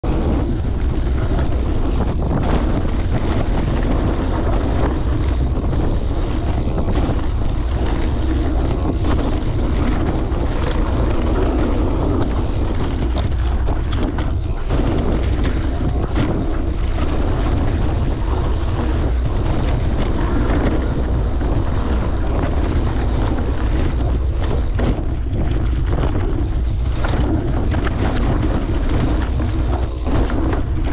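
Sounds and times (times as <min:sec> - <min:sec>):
bike knocks and rattles: 0:00.0 - 0:30.9
tyre rumble: 0:00.0 - 0:30.9
wind buffeting microphone: 0:00.0 - 0:30.9.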